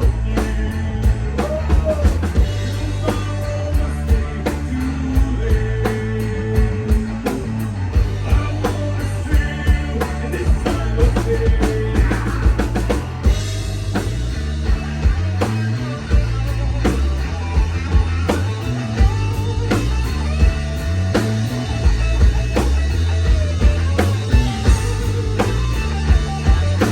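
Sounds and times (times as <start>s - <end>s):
bass notes: 0.0s - 26.9s
drum kit beat: 0.0s - 26.9s
electric guitar lines: 0.0s - 26.9s.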